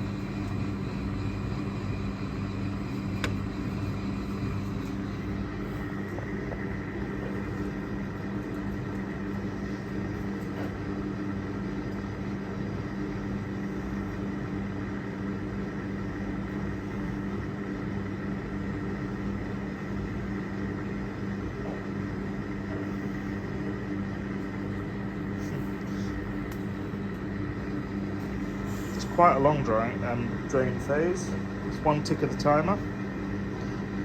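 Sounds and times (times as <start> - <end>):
dishwasher drain pump humming: 0.0 - 34.0.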